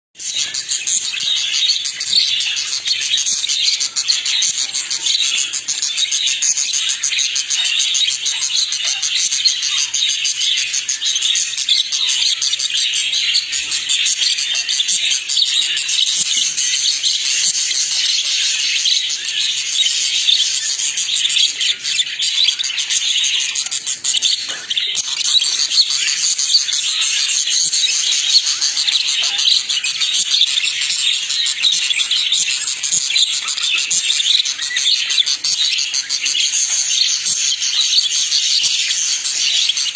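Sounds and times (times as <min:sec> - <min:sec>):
budgerigars chattering and warbling: 0:00.2 - 0:39.9.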